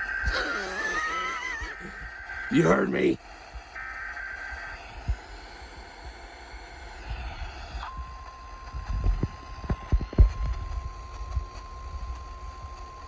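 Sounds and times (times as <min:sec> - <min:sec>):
radio hiss: 0:00.0 - 0:13.0
steady alarm tone: 0:00.0 - 0:13.0.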